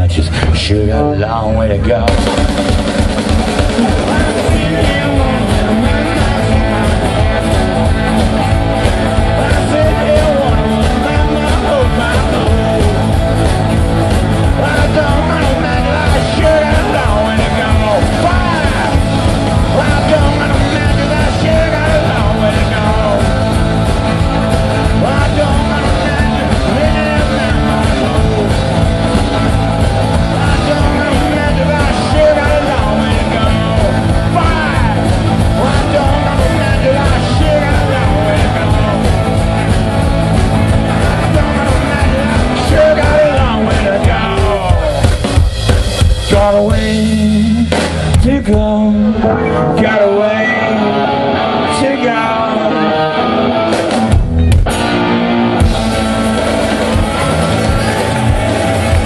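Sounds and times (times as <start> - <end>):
bending lead guitar notes: 0.0 - 59.0
blues-rock band playing: 0.0 - 59.0.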